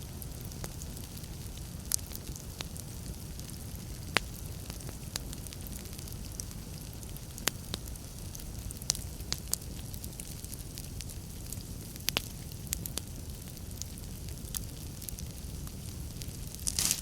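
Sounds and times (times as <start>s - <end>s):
flames hissing: 0.0s - 17.0s
wood fire crackling: 0.0s - 17.0s.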